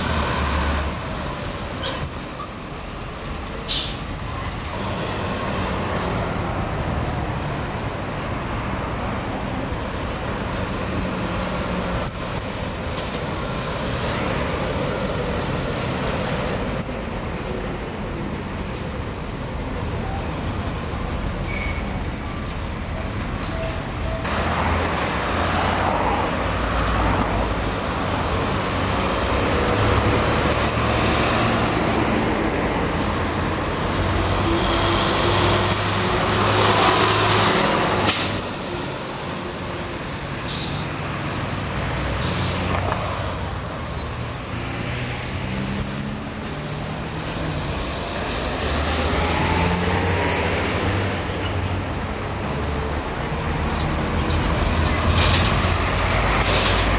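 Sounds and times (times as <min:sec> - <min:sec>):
diesel lorries passing: 0:00.0 - 0:56.9.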